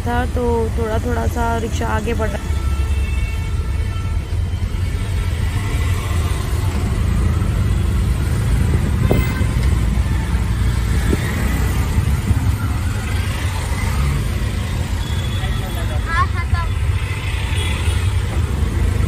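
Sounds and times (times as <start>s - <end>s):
rickshaw engine and road rumble: 0.0s - 19.0s
surrounding traffic noise: 0.0s - 19.0s.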